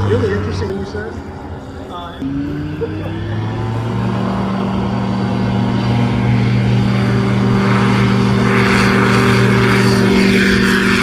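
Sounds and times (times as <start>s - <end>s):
light airplane propeller engine: 0.0s - 11.0s.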